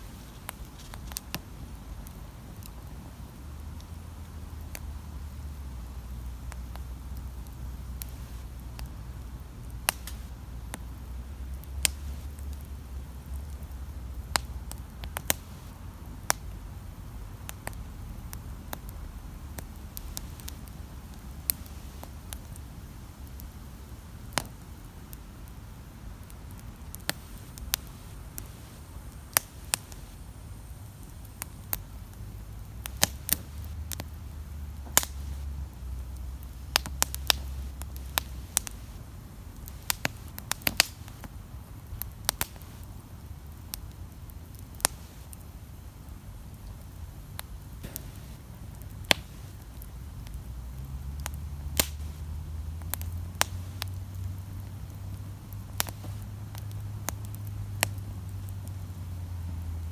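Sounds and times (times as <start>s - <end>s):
campfire crackling and popping: 0.0s - 59.9s
steady low rumble: 0.0s - 59.9s.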